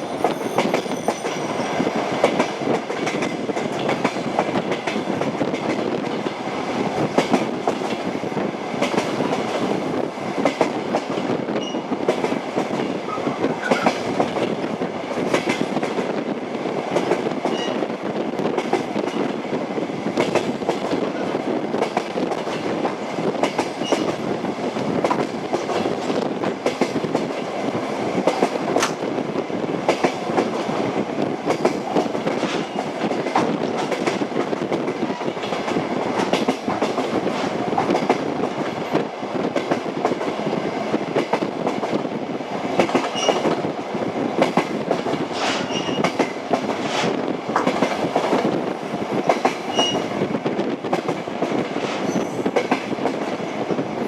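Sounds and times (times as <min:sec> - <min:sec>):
train carriage rumble: 0:00.0 - 0:54.0.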